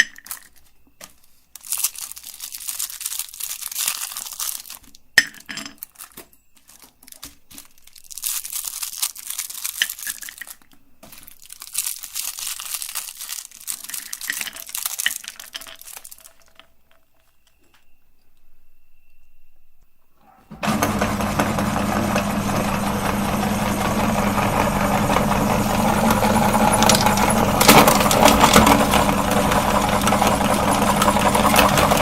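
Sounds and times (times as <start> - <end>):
crinkling and crunching: 0.0 - 19.2, 23.6 - 32.0.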